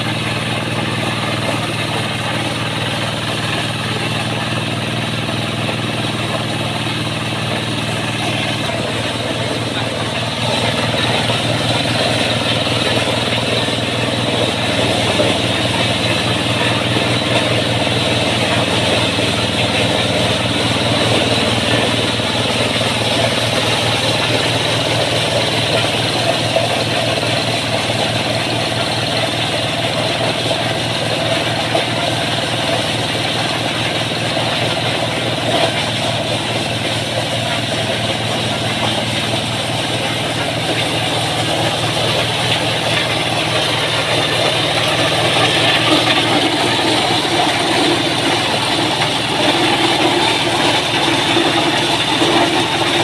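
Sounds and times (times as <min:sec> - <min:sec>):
corn cobs rattling in sheller: 0:00.0 - 0:53.0
engine humming: 0:00.0 - 0:53.0.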